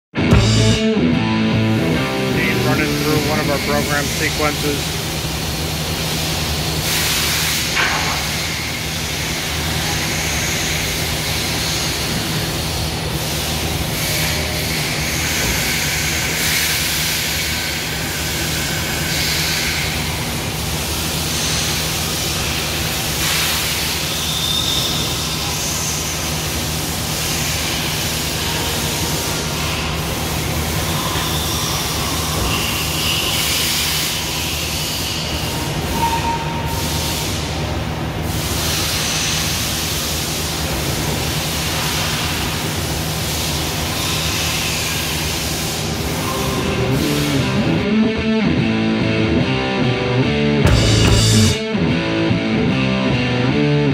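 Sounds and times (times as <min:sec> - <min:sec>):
machine hum and hiss: 0:00.2 - 0:52.8.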